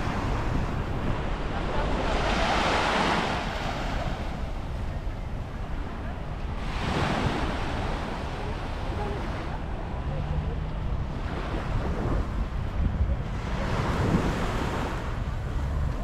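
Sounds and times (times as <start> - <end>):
waves breaking on beach: 0.0 - 16.0
wind rumbling on microphone: 0.0 - 16.0.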